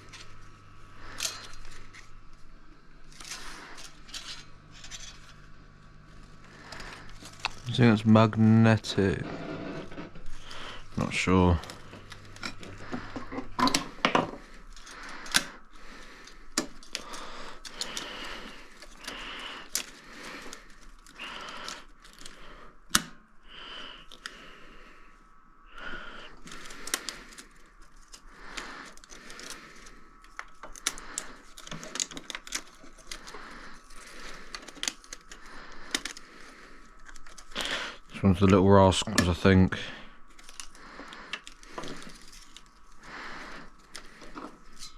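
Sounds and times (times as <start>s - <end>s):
heavy breathing: 0.0s - 5.4s, 6.2s - 8.0s, 8.9s - 44.9s.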